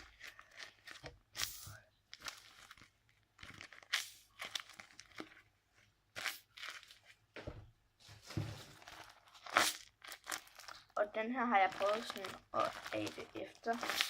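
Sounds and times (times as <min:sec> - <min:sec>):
paper and plastic crinkling: 0:00.0 - 0:01.3, 0:02.1 - 0:07.2, 0:08.1 - 0:14.0.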